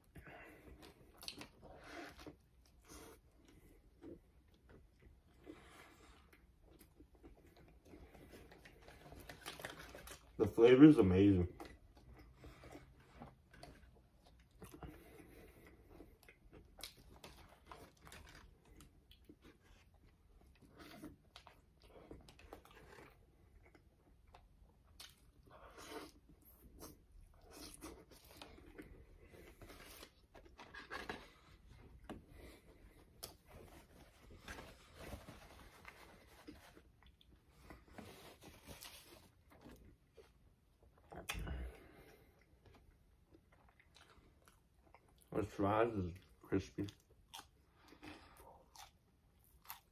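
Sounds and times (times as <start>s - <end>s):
chewing crispy food: 0.6s - 30.8s, 38.9s - 49.9s.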